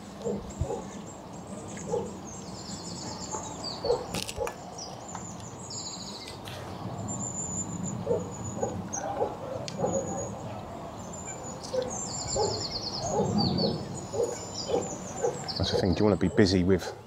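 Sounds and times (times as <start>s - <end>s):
small birds singing and chirping: 0.0s - 17.0s
lower bird calls: 0.2s - 16.6s.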